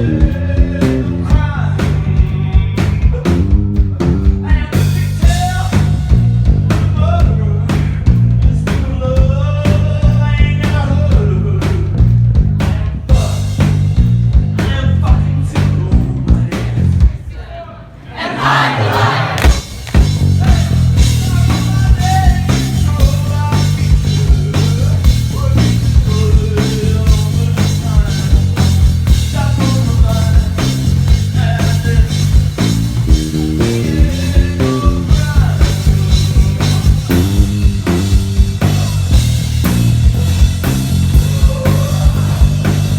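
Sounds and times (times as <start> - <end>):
guitar: 0.0 - 16.6, 19.5 - 42.9
live rock band playing: 0.0 - 16.9, 18.9 - 42.9
pulsing bass line: 0.0 - 17.0, 19.5 - 42.9
steady drum beat: 0.0 - 17.5, 18.4 - 42.9.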